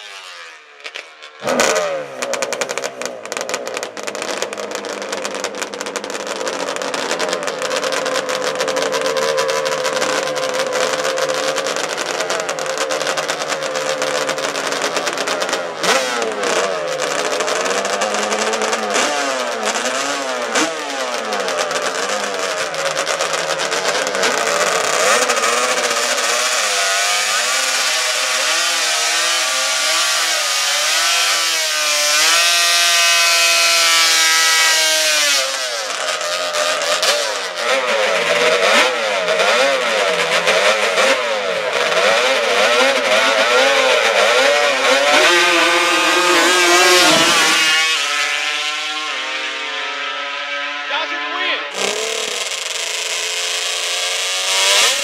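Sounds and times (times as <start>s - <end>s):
atv engines revving: 0.0s - 55.0s.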